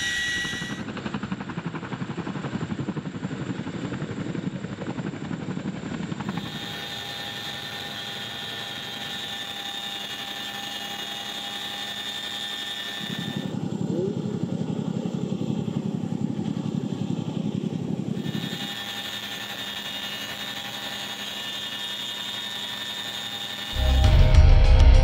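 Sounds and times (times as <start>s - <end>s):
helicopter cabin whine: 0.0s - 25.0s
helicopter rotors beating: 0.0s - 25.0s.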